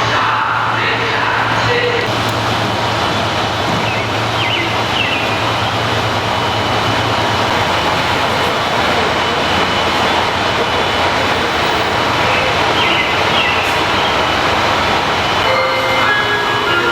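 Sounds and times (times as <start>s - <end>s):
railcar rumbling on rails: 0.0s - 16.9s.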